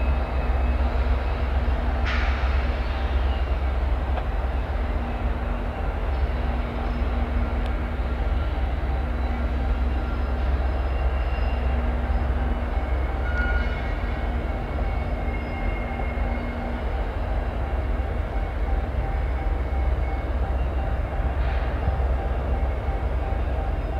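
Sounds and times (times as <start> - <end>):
diesel locomotive low rumble: 0.0 - 23.9.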